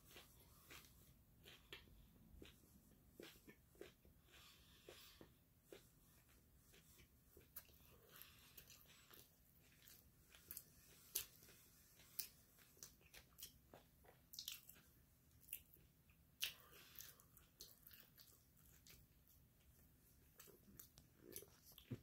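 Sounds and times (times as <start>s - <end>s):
faint crunching of chewing: 0.0s - 22.0s.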